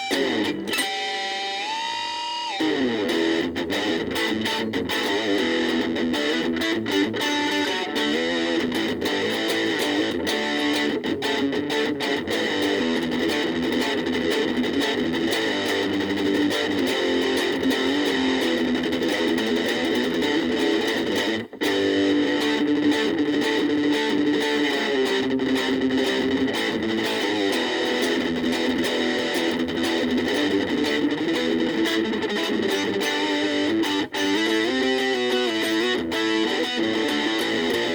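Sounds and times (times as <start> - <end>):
electric guitar notes and chords: 0.0 - 37.9.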